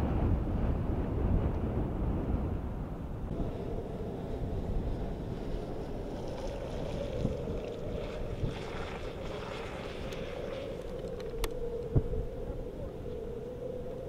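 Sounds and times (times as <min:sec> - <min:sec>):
wind gusting on microphone: 0:00.0 - 0:14.0.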